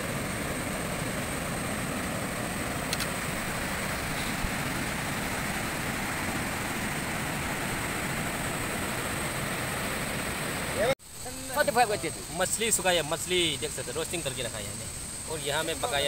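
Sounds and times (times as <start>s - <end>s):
river rushing over rapids: 0.0s - 13.5s.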